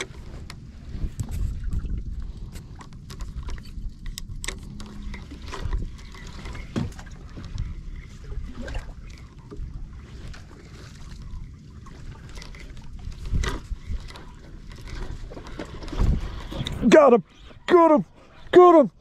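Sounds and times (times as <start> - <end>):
low steady rumble: 0.0 - 19.0
water lapping against boat hull: 0.0 - 19.0.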